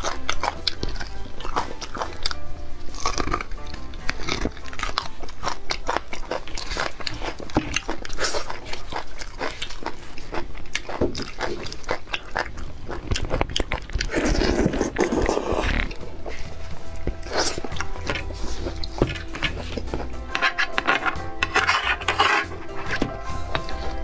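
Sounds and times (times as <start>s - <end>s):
wet biting and chewing: 0.0s - 24.0s.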